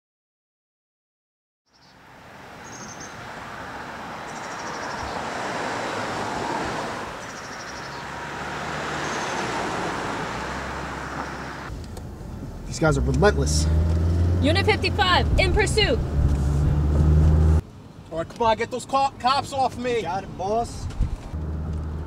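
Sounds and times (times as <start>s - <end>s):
car engine and road noise: 1.7s - 22.0s.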